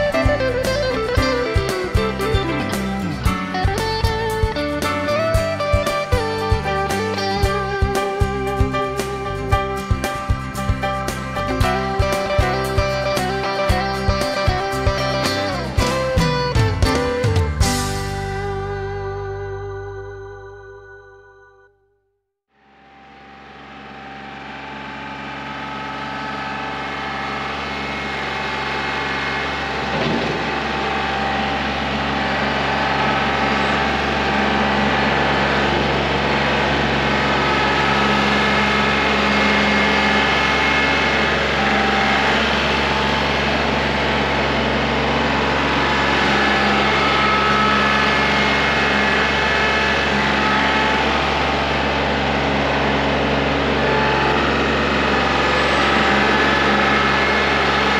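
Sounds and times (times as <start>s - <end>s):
tractor diesel engine running: 0.0s - 20.6s, 22.6s - 57.9s.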